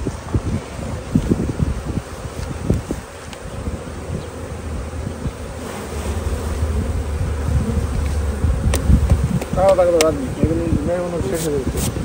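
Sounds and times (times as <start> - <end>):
bees buzzing: 0.0 - 12.0
wind rumbling on microphone: 0.0 - 12.0.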